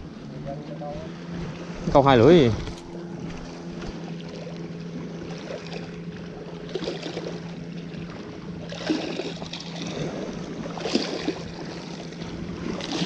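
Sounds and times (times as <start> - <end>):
boat engine humming: 0.0 - 13.0
water lapping and trickling: 0.0 - 13.0
light knocks and splashes: 1.3 - 13.0.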